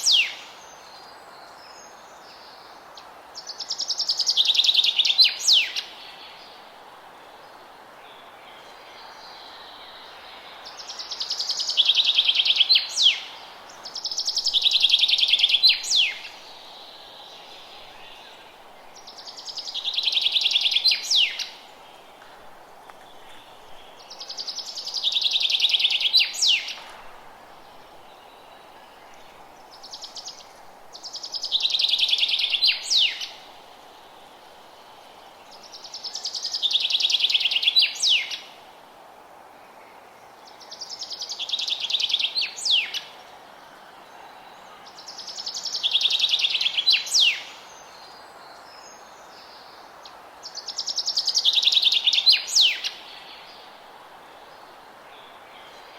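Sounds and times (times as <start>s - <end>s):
faint forest hiss: 0.0s - 55.9s.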